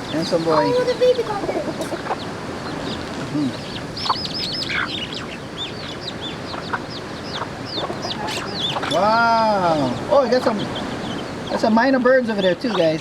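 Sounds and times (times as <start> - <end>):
chick peeping and birds chirping: 0.0 - 13.0.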